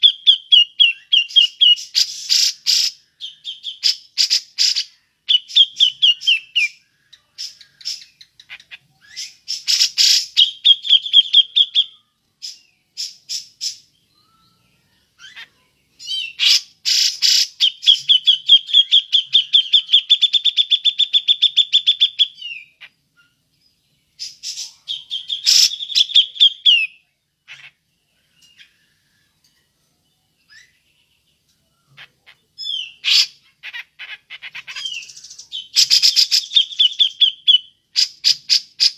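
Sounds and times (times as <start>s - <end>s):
bird chattering and trilling: 0.0s - 23.5s, 24.2s - 29.0s, 30.5s - 38.9s.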